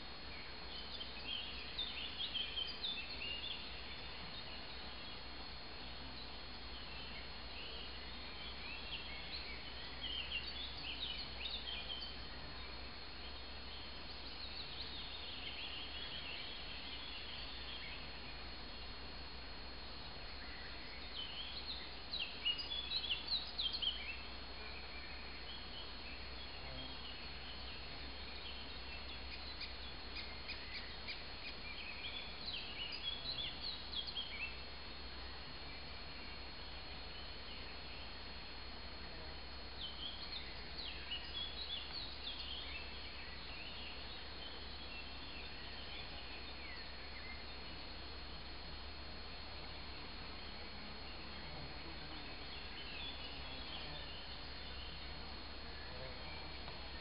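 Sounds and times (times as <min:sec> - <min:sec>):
outdoor background noise: 0:00.0 - 0:57.0
songbird chirping: 0:00.0 - 0:57.0.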